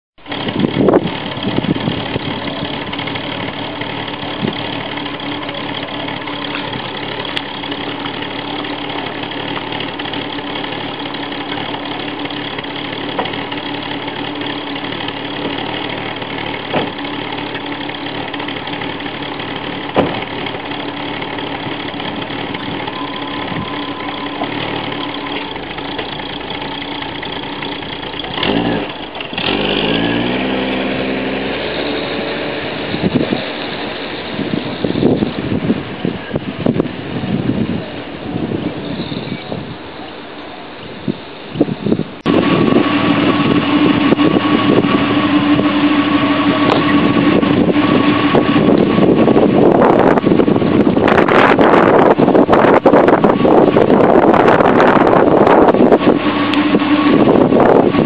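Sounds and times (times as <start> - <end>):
car engine idling: 0.2 - 38.8, 39.5 - 58.0
car accelerating away: 0.3 - 34.9, 42.2 - 58.0.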